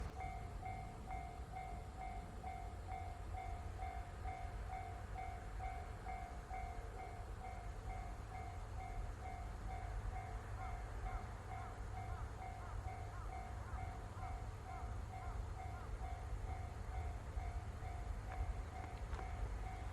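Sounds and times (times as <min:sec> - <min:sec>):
level crossing warning bell ringing: 0:00.0 - 0:19.9.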